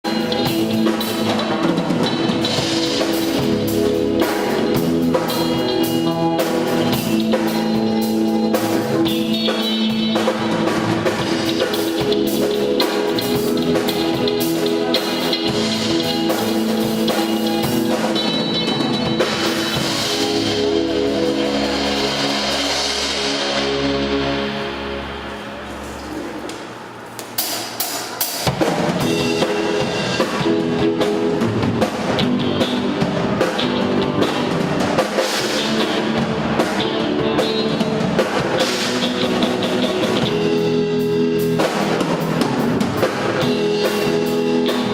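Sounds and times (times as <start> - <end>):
drum kit steady beat: 0.0 - 24.2, 27.2 - 44.9
band playing instrumental: 0.0 - 44.9.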